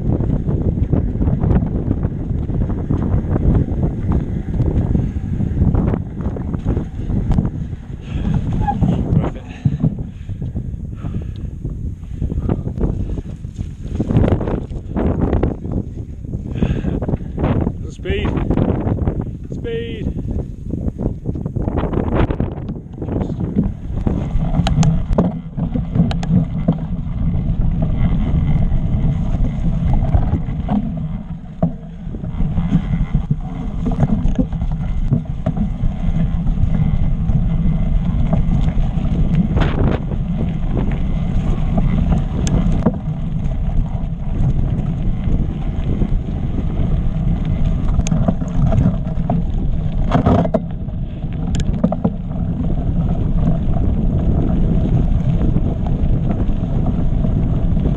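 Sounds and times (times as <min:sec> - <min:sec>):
bike knocking and rattling on rocks: 0:00.0 - 0:57.9
bike tyres rumbling on rocky trail: 0:00.0 - 0:57.9
wind buffeting microphone: 0:00.0 - 0:57.9.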